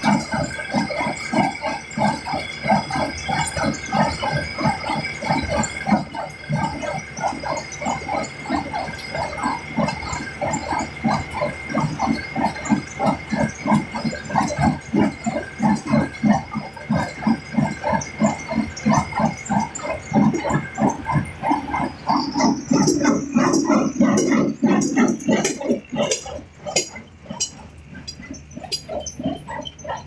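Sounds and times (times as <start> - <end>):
steady high whine: 0.0 - 30.0
tractor engine running: 0.0 - 30.0.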